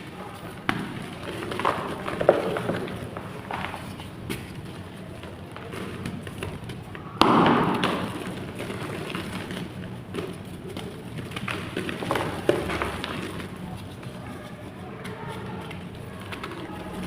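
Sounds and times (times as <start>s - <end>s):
clay blocks crumbling: 0.0s - 17.0s.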